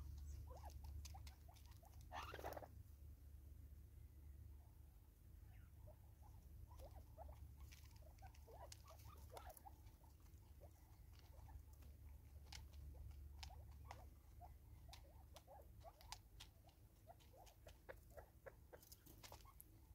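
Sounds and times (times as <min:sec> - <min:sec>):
soft squeaky chirps: 0:00.0 - 0:02.8, 0:05.4 - 0:19.9
low steady rumble: 0:00.0 - 0:19.9.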